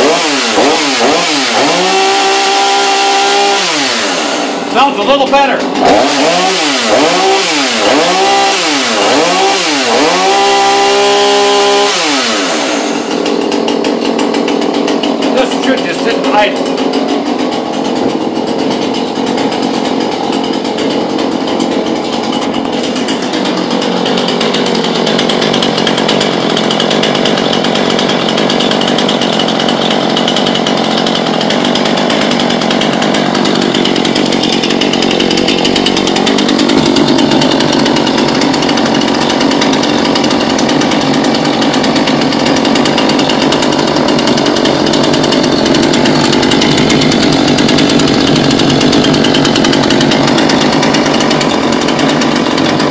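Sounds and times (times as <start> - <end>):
chainsaw engine idling: 0.0 - 52.9.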